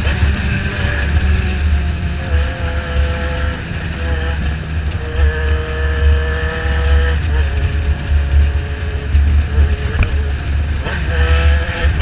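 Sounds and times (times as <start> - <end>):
motorcycle engine running: 0.0 - 12.0
wind rush over microphone: 0.0 - 12.0.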